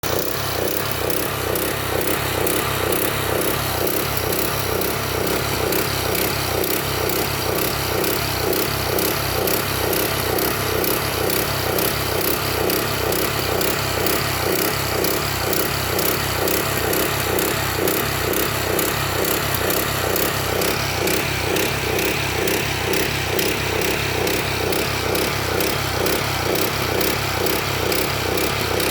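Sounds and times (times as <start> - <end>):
small engine pulsing: 0.0 - 28.9.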